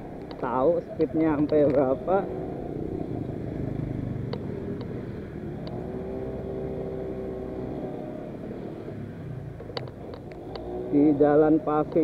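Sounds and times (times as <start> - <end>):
scooter engine running: 1.4 - 12.0.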